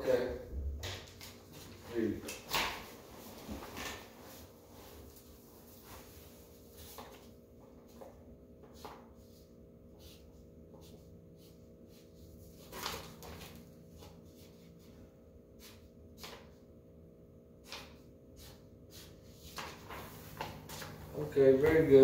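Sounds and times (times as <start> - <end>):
low electrical hum: 0.0 - 22.0
paper rustling: 1.1 - 10.2, 10.8 - 15.0, 17.6 - 22.0.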